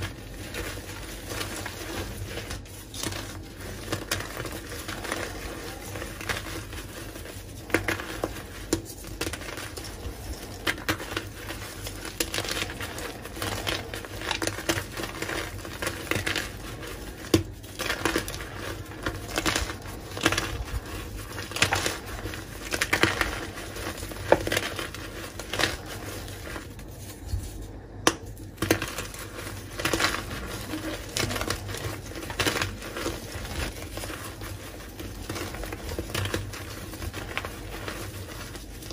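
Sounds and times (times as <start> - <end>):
chalk blocks crunching by hand: 0.0 - 38.9.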